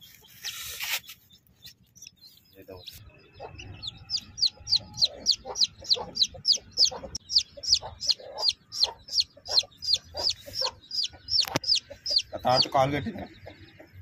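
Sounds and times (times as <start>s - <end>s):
chick peeping: 0.0s - 14.0s.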